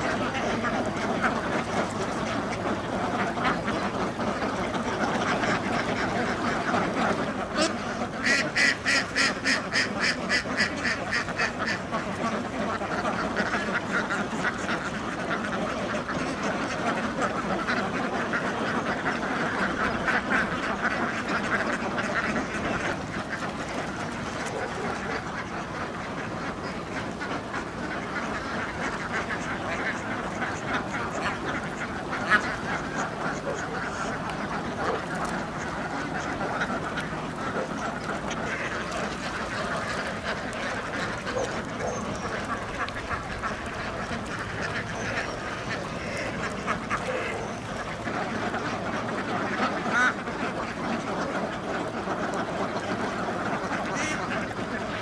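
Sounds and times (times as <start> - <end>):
close duck quacking rapidly: 0.0 - 52.0, 53.5 - 55.0
flock of ducks quacking: 0.0 - 55.0.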